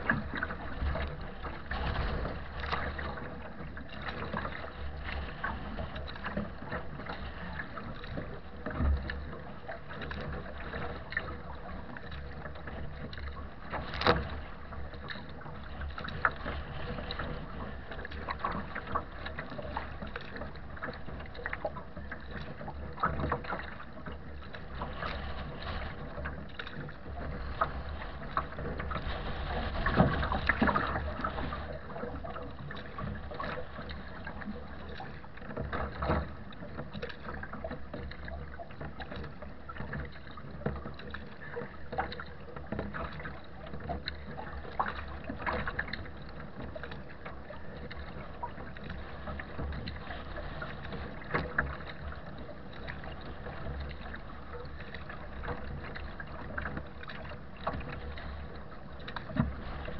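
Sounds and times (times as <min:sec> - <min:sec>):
water slapping against hull: 0:00.0 - 0:59.9.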